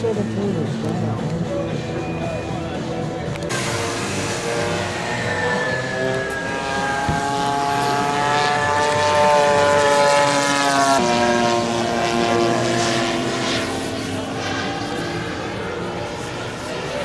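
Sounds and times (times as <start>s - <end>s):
model plane propeller engine droning: 3.4s - 17.0s.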